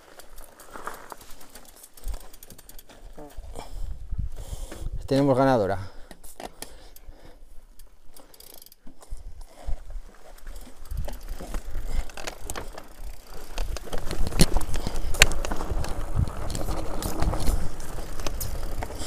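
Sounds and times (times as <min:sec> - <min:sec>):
tyre and wind rumble: 0:00.0 - 0:05.6, 0:09.1 - 0:19.0
bike clicks and rattles: 0:00.0 - 0:19.0.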